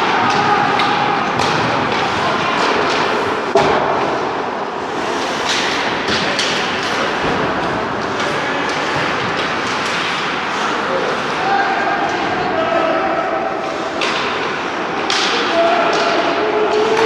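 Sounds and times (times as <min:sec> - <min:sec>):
arena noise: 0:00.0 - 0:17.0
hockey sticks and puck clacking: 0:00.0 - 0:17.0.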